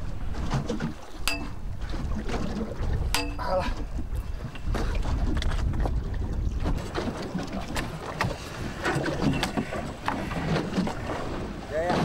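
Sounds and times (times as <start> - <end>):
water lapping against boat: 0.0 - 12.0
wind buffeting microphone: 0.0 - 12.0.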